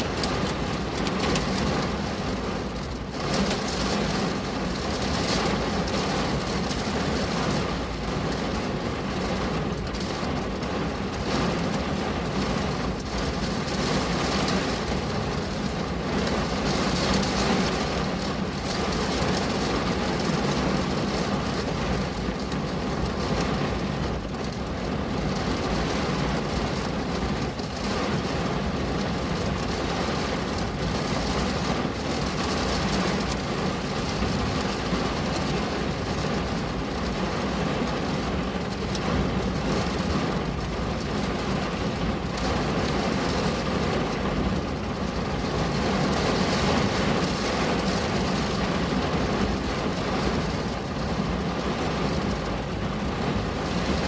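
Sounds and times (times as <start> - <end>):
rain on window glass: 0.0 - 54.0.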